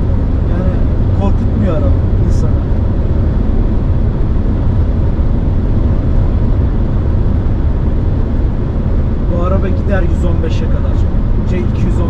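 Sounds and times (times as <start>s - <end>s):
road and tyre noise: 0.0s - 12.0s.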